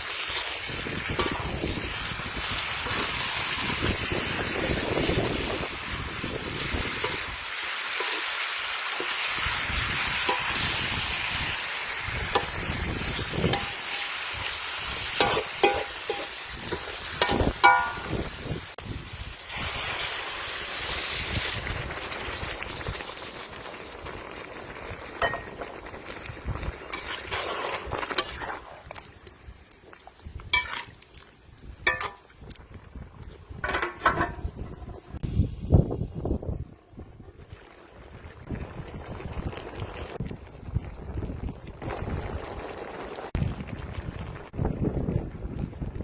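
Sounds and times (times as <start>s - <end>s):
meat sizzling over charcoal: 0.0s - 46.0s.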